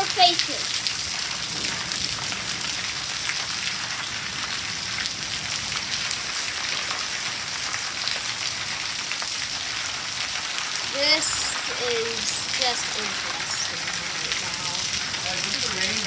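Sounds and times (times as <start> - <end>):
heavy rain on hard surfaces: 0.0 - 16.0.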